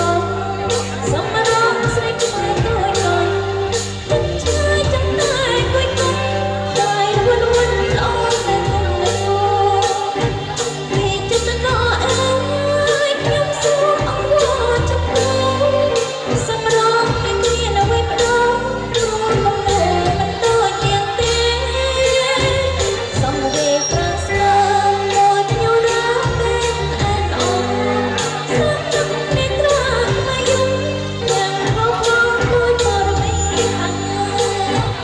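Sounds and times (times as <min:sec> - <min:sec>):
dance song with singer and band: 0:00.0 - 0:35.0
steady bass: 0:00.0 - 0:35.0.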